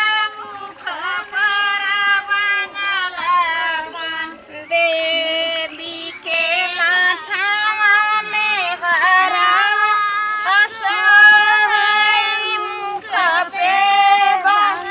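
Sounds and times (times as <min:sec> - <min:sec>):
women singing folk song: 0:00.0 - 0:14.9.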